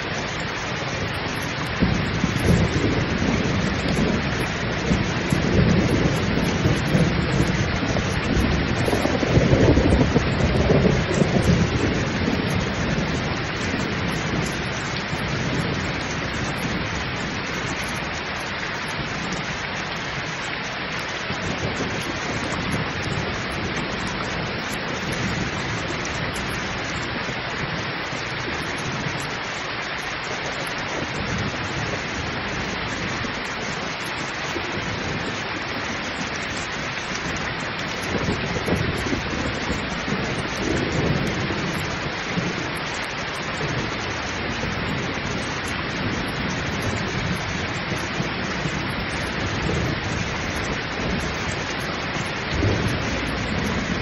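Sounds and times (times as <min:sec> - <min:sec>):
heavy rain pouring: 0:00.0 - 0:54.0
low rolling thunder: 0:00.0 - 0:54.0.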